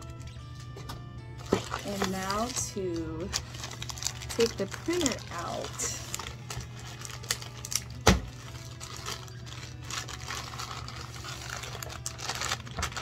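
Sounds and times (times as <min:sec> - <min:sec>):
plastic wrapping crinkling: 0:01.4 - 0:13.0.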